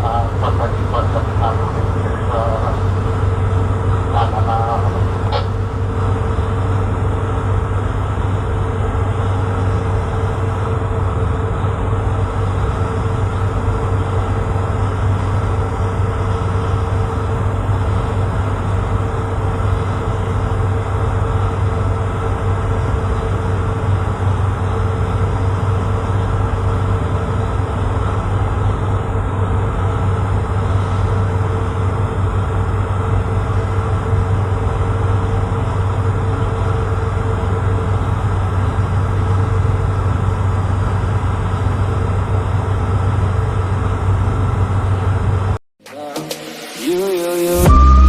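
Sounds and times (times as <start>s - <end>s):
diesel engine humming: 0.0s - 48.0s.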